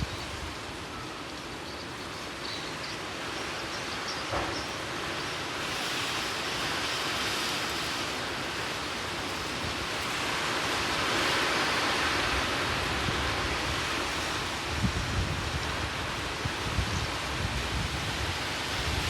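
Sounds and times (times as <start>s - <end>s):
rain in strong wind: 0.0s - 19.0s.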